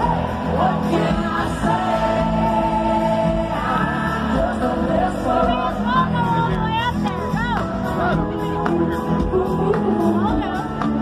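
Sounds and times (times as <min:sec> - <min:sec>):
country rock band playing: 0:00.0 - 0:11.0.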